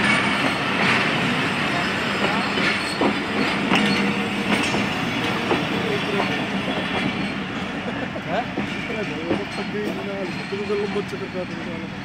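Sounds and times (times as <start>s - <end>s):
wheels clacking over rail joints: 0.0s - 7.6s, 8.4s - 11.9s
train coaches rumbling past: 0.0s - 12.0s.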